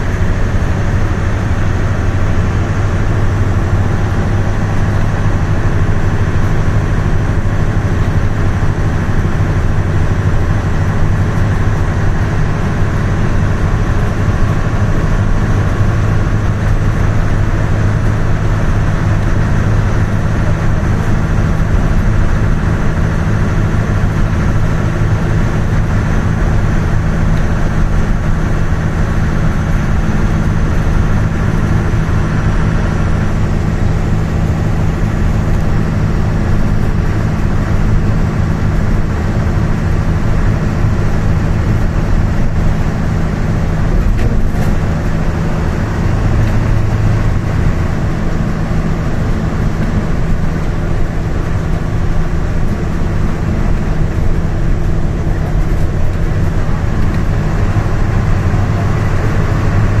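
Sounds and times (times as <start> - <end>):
vehicle road and engine noise: 0.0 - 60.0.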